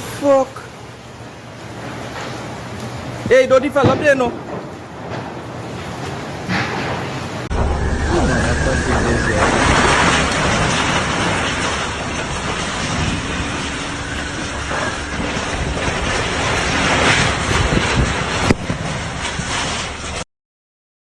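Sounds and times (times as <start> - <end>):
storm wind buffeting microphone: 0.0 - 20.2.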